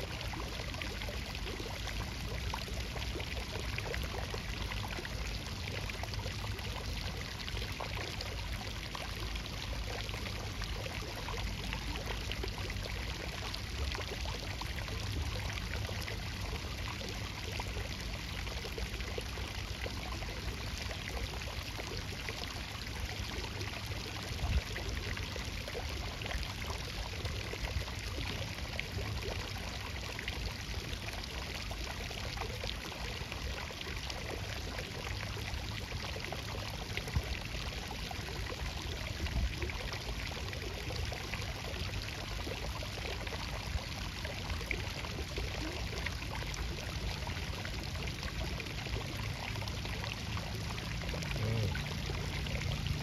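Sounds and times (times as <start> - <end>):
running water: 0.0 - 53.0.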